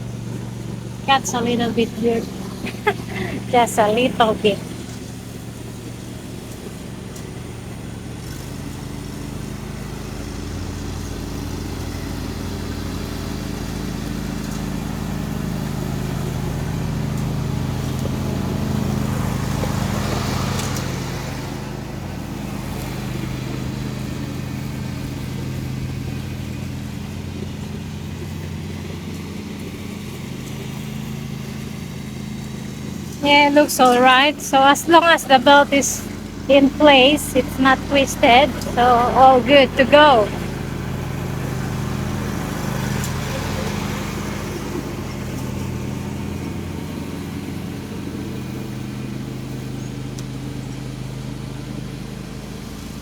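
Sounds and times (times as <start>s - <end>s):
lawn tractor engine running: 0.0s - 53.0s.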